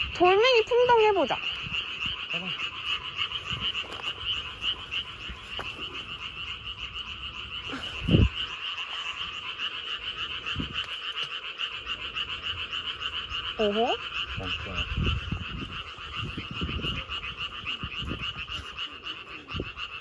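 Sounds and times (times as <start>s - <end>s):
frogs calling in trills: 0.0s - 20.0s.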